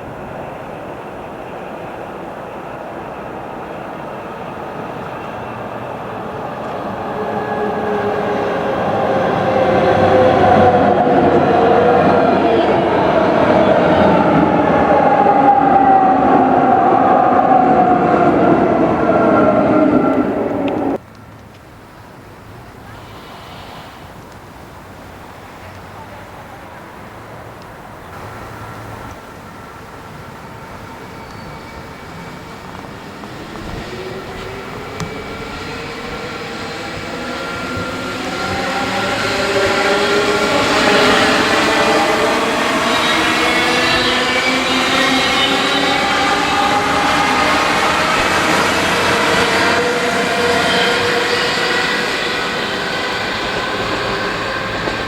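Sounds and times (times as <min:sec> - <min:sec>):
train rumbling on rails: 0:00.0 - 0:55.0
train whine: 0:00.0 - 0:55.0.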